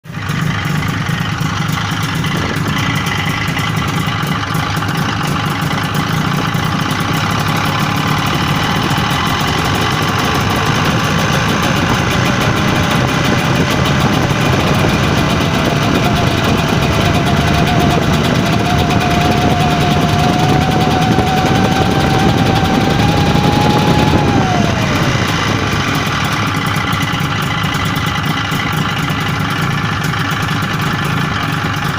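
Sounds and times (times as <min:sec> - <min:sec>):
engine running with knock: 0:00.0 - 0:31.9.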